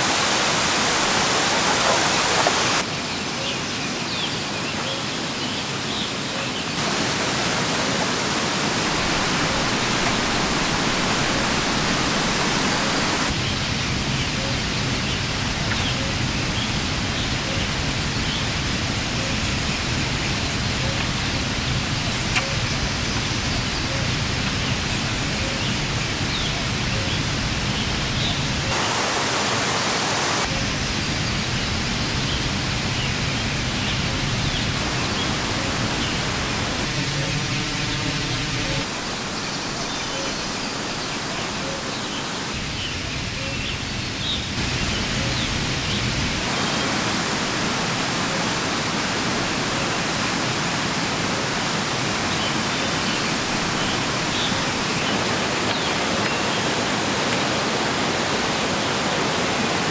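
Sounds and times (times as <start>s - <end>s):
rushing outdoor hiss: 0.0s - 59.9s.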